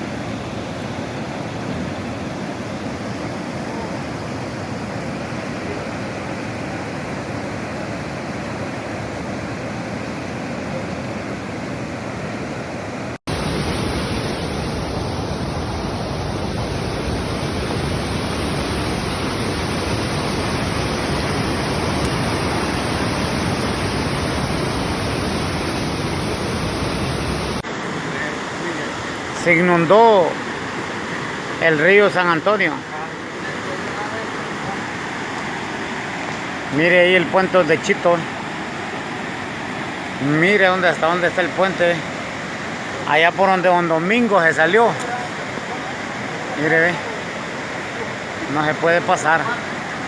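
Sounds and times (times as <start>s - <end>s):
river rushing in flood: 0.0s - 50.0s.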